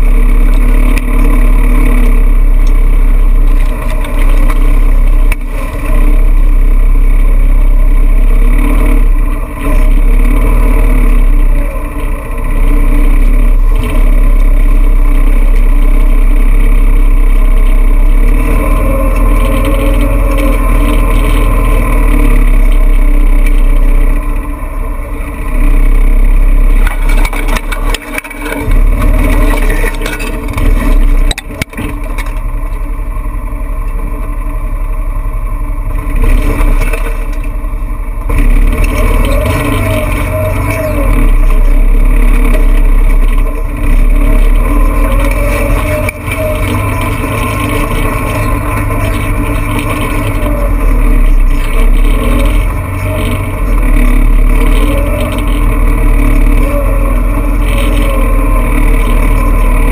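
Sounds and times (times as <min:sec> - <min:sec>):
off-road vehicle engine rumbling: 0:00.0 - 0:59.9.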